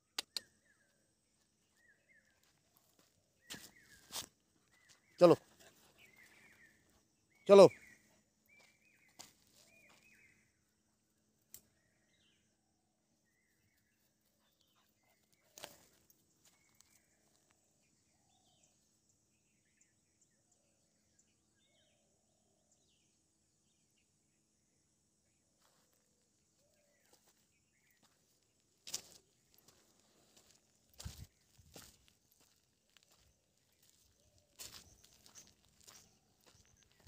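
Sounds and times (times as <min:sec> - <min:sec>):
faint bird chirps: 0:00.0 - 0:37.0.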